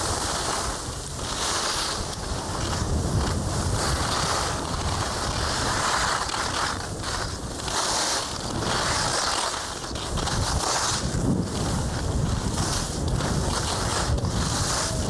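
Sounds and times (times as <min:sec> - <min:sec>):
skis scraping over icy snow: 0:00.0 - 0:15.0
wind buffeting microphone: 0:00.0 - 0:15.0.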